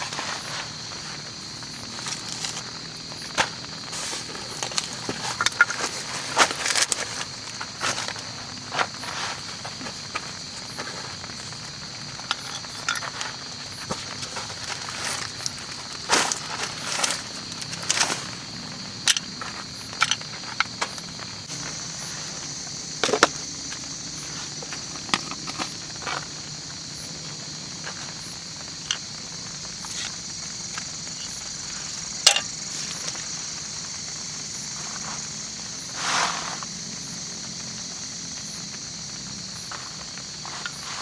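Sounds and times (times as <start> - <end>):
night insects chirring: 0.0 - 41.0
rustle: 0.0 - 41.0.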